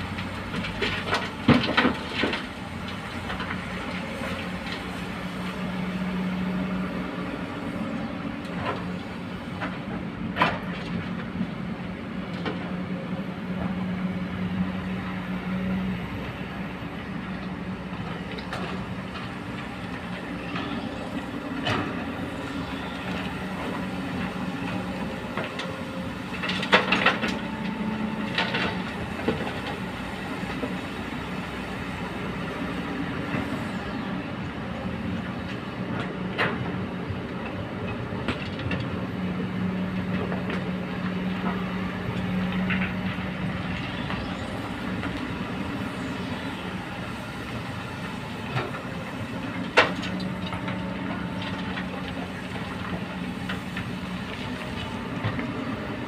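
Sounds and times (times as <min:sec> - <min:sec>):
excavator diesel engines humming: 0:00.0 - 0:56.0.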